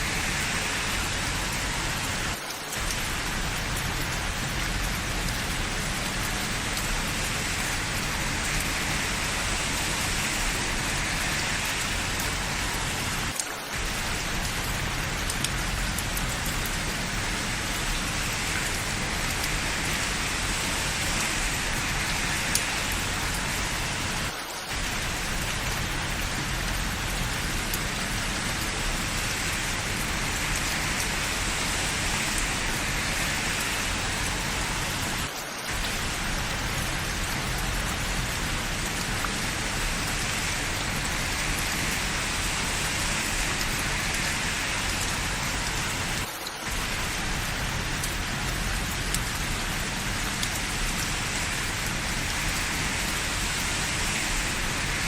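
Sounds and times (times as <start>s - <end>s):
steady rain hissing: 0.0s - 55.0s.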